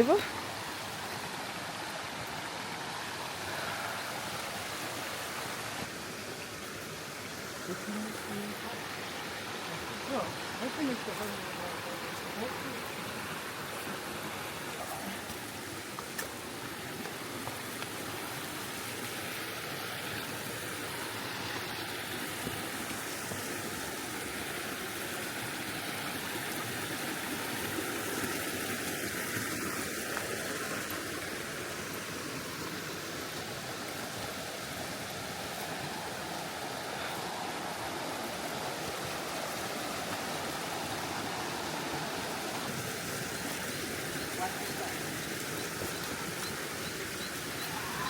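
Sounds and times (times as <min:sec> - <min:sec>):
river flowing over rocks: 0:00.0 - 0:48.0.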